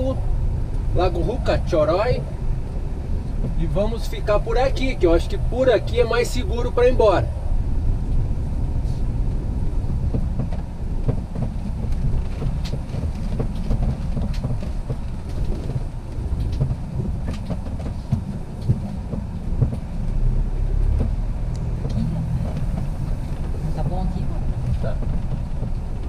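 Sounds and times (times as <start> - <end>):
vehicle engine and tyres rumble: 0.0 - 26.0.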